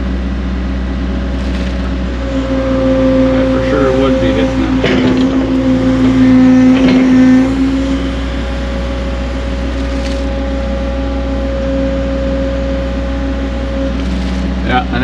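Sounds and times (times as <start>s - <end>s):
excavator engine and hydraulics whine: 0.0s - 15.0s.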